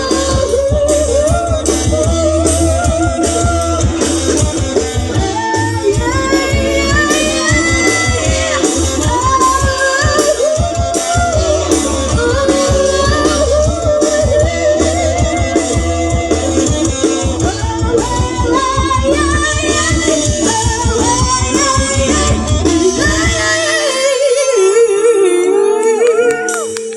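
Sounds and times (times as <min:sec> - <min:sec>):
person singing: 0:00.0 - 0:26.9
pop band with steady beat: 0:00.0 - 0:26.9.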